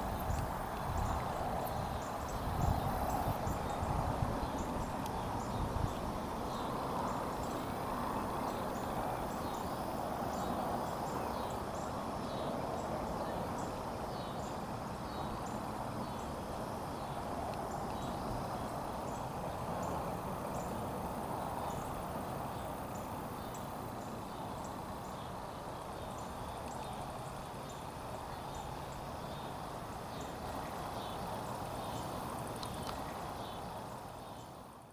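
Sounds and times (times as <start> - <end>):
creek water over stones: 0.0 - 34.9.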